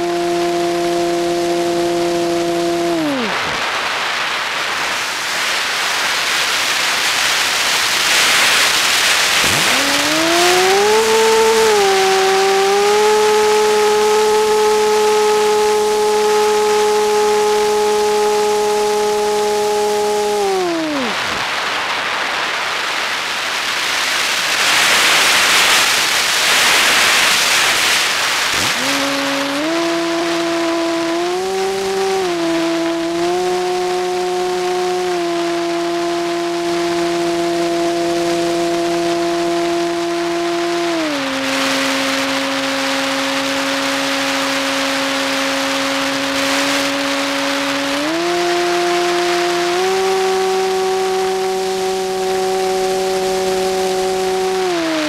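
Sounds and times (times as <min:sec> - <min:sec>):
model plane motor whine: 0:00.0 - 0:21.6, 0:24.0 - 0:55.0
wind rushing over microphone: 0:00.0 - 0:55.0.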